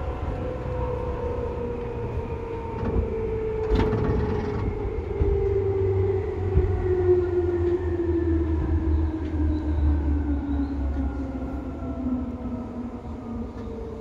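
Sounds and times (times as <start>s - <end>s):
wheels rumbling on track: 0.0s - 14.0s.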